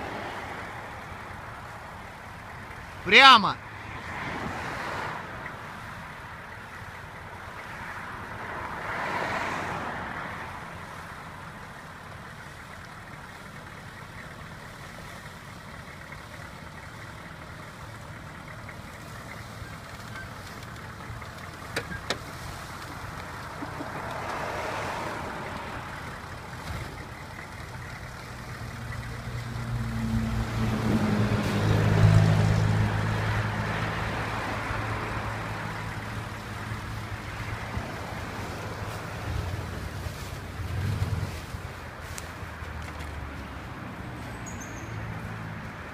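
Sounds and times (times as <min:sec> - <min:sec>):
car engine running: 0:00.0 - 0:09.1, 0:09.8 - 0:45.9.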